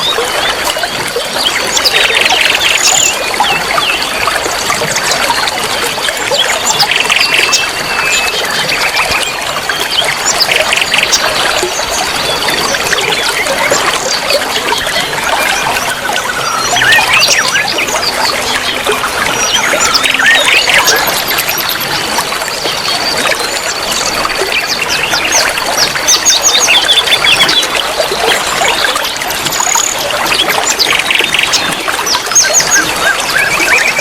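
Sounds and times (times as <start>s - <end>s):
songbirds chirping and trilling: 0.0s - 34.0s
trickle of running water: 0.0s - 34.0s.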